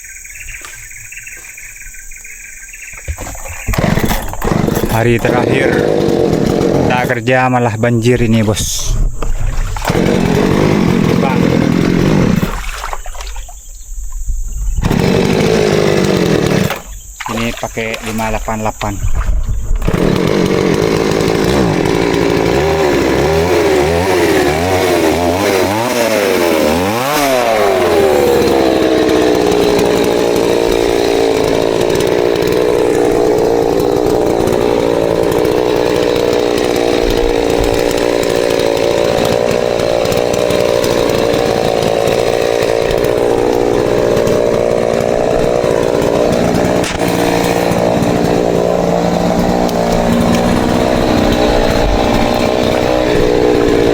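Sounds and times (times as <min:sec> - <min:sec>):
chainsaw revving and cutting: 0:03.2 - 0:07.3, 0:09.6 - 0:13.2, 0:14.8 - 0:18.8, 0:19.8 - 0:53.9.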